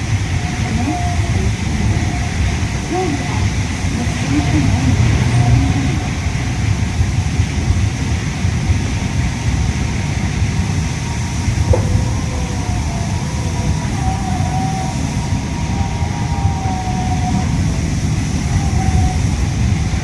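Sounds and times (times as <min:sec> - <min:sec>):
air-conditioning hiss: 0:00.0 - 0:20.0
faint wavering whine: 0:00.0 - 0:20.0
monorail running rumble: 0:00.0 - 0:20.0.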